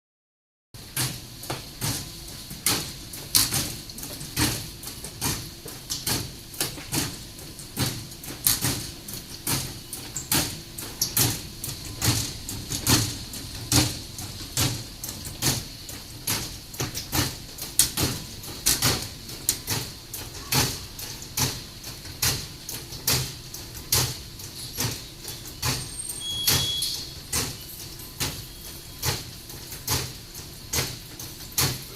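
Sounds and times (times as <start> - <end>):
low mechanical hum: 0.8 - 31.9.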